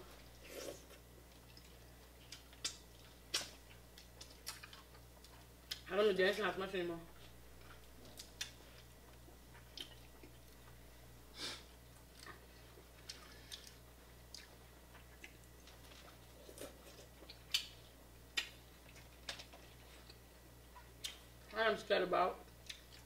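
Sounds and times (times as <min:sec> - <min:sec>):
faint chewing: 0:00.1 - 0:05.9, 0:07.1 - 0:10.8, 0:11.9 - 0:21.5, 0:22.5 - 0:23.0.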